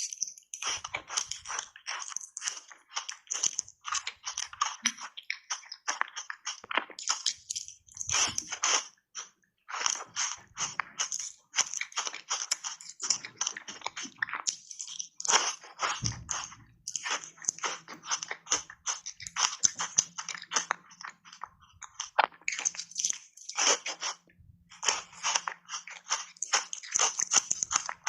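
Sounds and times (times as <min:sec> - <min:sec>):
ice crunching while chewed: 0:00.0 - 0:28.0.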